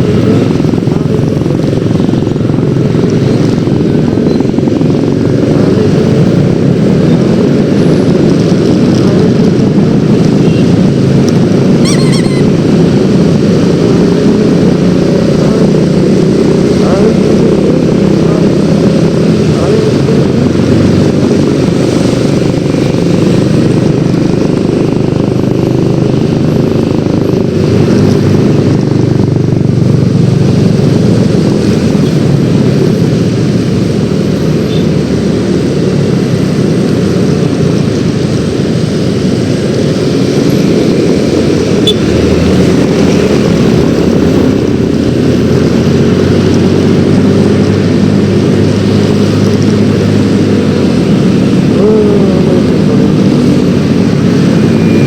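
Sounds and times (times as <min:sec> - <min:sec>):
scooter engine running: 0:00.0 - 0:55.0
wind and road noise: 0:00.0 - 0:55.0.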